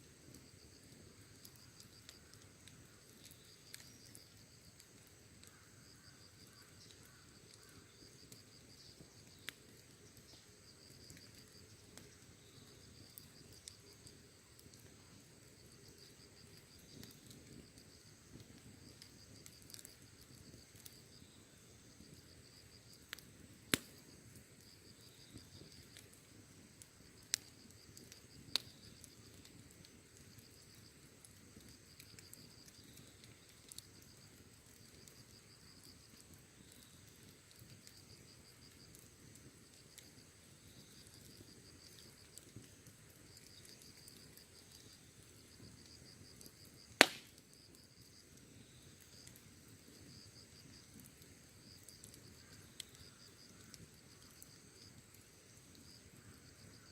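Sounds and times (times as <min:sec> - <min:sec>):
fire popping: 0:00.0 - 0:56.9
wood fire crackling: 0:00.0 - 0:56.9
insects chirping: 0:00.4 - 0:56.9.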